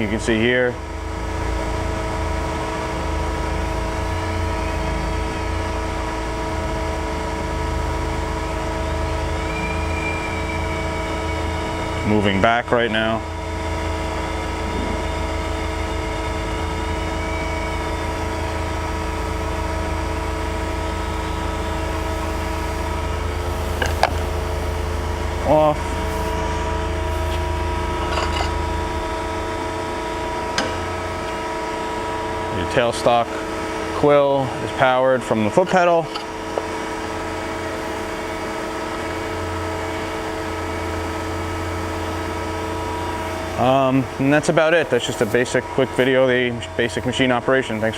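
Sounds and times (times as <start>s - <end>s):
grinder machine humming: 0.0s - 47.9s.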